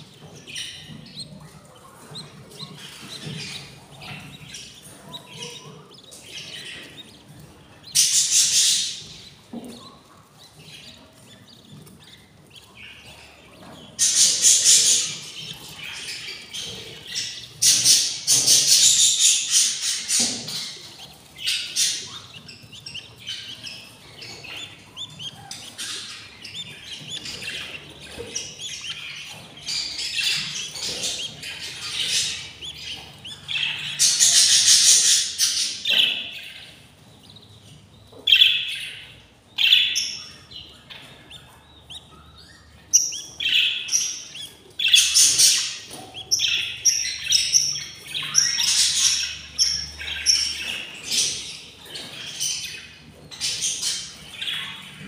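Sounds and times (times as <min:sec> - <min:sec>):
budgerigars chirping: 0:00.0 - 0:55.0.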